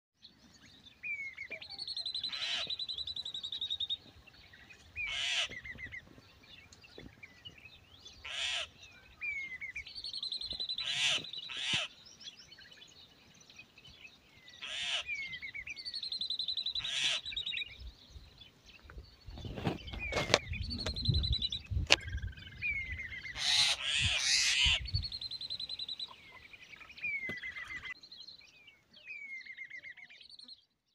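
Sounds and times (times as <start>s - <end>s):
birds trilling and chirping: 0.2s - 30.8s.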